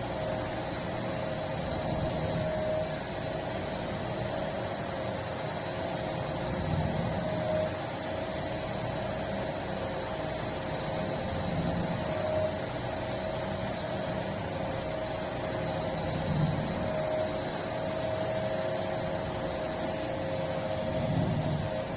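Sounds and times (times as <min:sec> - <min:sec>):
faint steady tone: 0:00.0 - 0:21.9
packing machine humming: 0:00.0 - 0:21.9.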